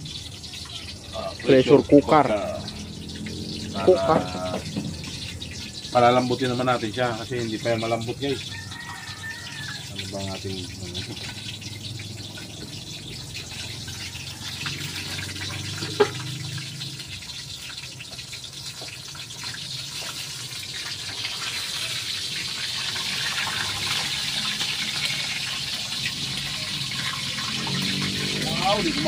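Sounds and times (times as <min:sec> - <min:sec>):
meat deep-frying in oil: 0:00.0 - 0:29.0.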